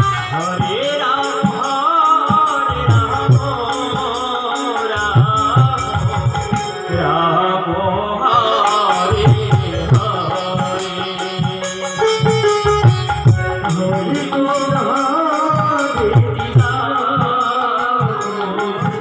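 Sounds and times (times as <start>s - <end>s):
keyboard: 0.0s - 19.0s
voices singing: 0.0s - 19.0s.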